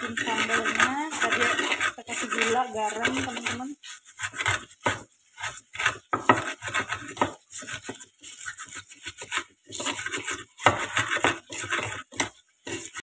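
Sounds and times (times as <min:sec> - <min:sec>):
pestle grinding in clay mortar: 0:00.0 - 0:13.0.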